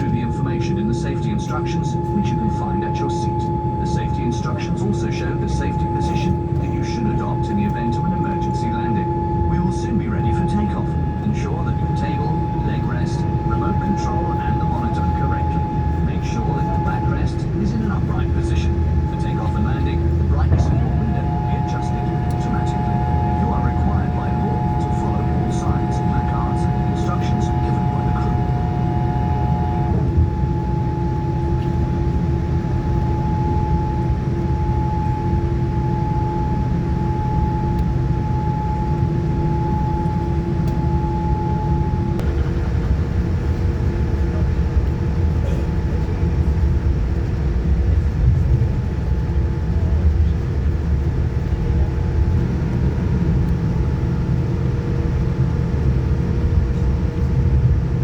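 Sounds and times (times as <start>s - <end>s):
airplane cabin rumble: 0.0s - 58.0s
steady hums: 0.0s - 58.0s.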